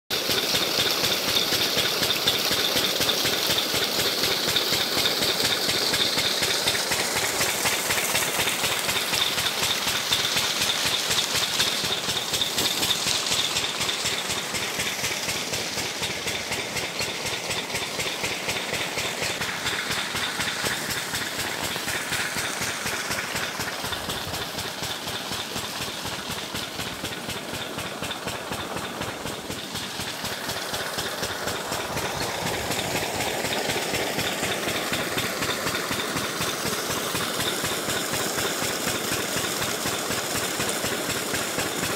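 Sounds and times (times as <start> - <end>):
pump engine thudding: 0.1 - 41.9
water pouring from pipe: 0.1 - 41.9.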